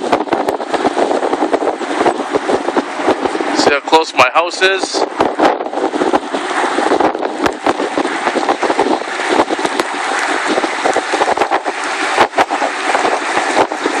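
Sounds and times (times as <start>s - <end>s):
floodwater rushing across ground: 0.0s - 14.0s
wind buffeting microphone: 0.0s - 14.0s.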